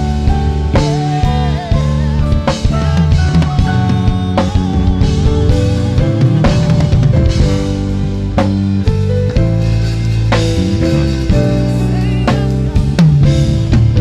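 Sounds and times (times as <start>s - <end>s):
bass and guitar chords: 0.0s - 14.0s
drum kit hits: 0.0s - 14.0s.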